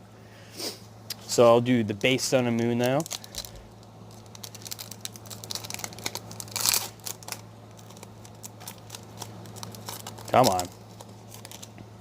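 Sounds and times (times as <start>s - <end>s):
foil wrapper crinkling: 1.4s - 11.8s
foil wrapper ripping: 2.0s - 11.8s.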